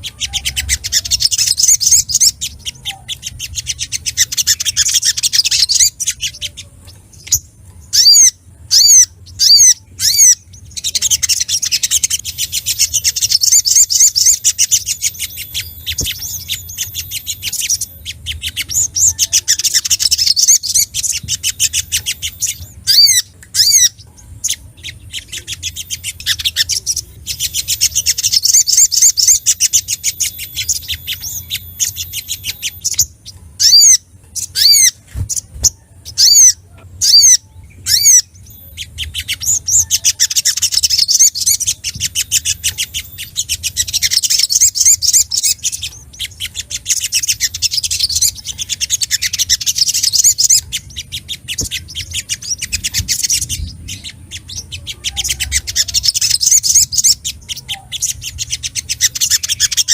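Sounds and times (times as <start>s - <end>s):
bird chattering trills: 0.0s - 59.9s.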